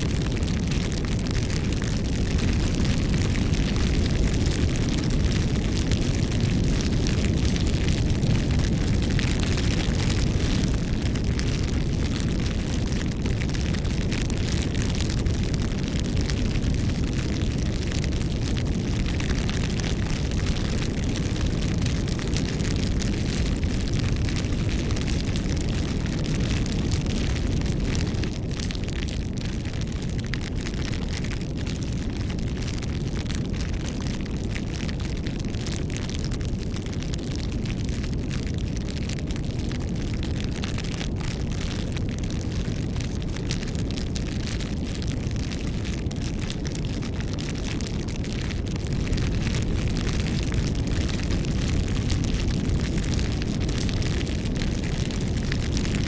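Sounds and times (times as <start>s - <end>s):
low rumble of flames: 0.0s - 56.0s
wood crackling and popping: 0.0s - 56.0s.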